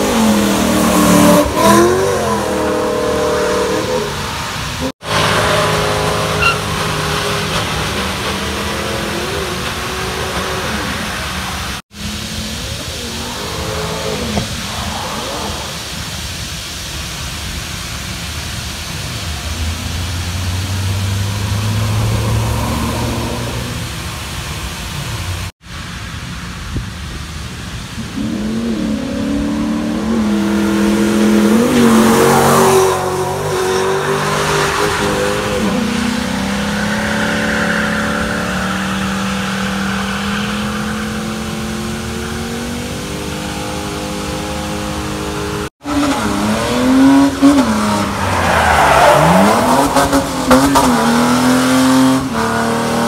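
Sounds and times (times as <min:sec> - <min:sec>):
car engine revving: 0:00.0 - 0:16.1, 0:19.4 - 0:25.5, 0:27.8 - 0:53.0.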